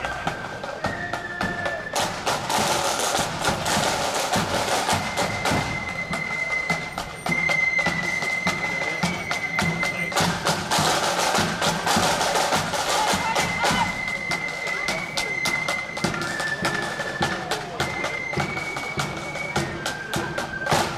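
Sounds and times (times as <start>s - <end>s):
marching snare drums: 0.0s - 20.9s.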